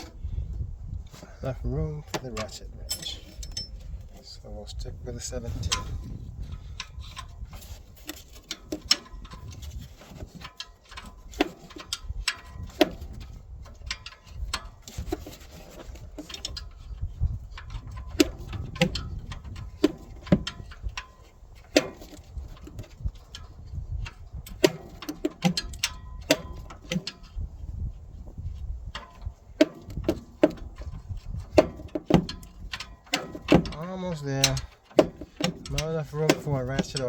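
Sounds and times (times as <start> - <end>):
tool clinking against metal: 2.1 - 4.2, 5.6 - 16.9, 17.6 - 27.4, 28.9 - 37.0.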